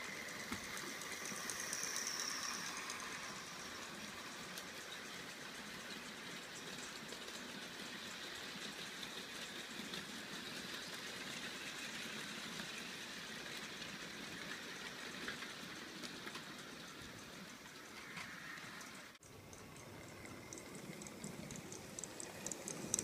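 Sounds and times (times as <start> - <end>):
model wagons rattling on track: 0.0 - 23.0.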